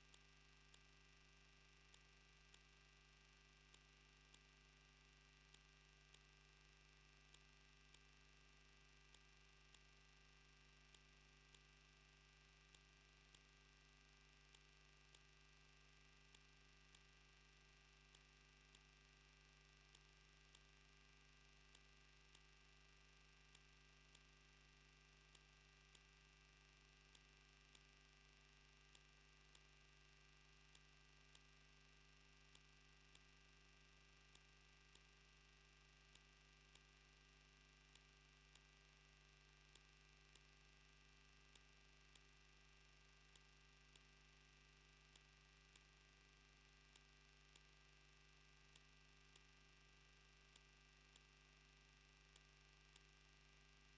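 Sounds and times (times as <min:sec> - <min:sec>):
faint electrical hum: 0:00.0 - 0:53.9.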